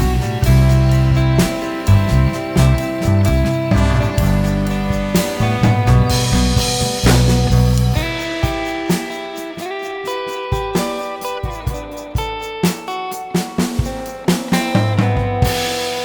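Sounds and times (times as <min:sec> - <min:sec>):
guitar with drums and bass: 0:00.0 - 0:16.0.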